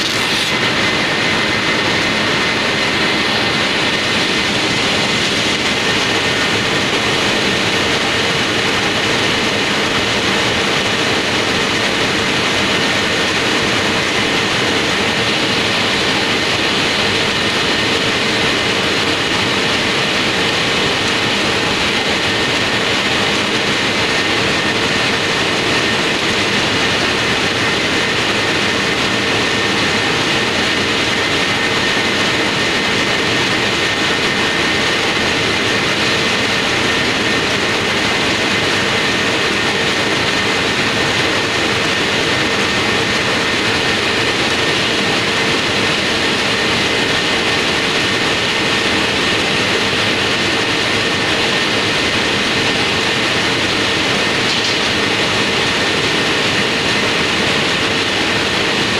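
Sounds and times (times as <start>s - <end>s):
factory machine running: 0.0s - 58.9s.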